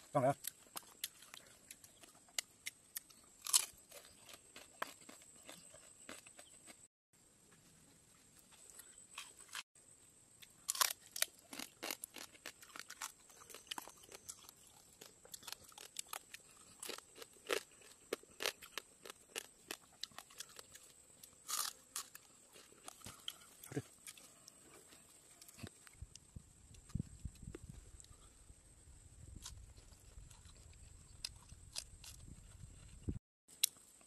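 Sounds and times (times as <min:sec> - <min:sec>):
food crunching in bamboo tube: 0:00.3 - 0:06.8, 0:10.4 - 0:28.2, 0:29.4 - 0:34.0.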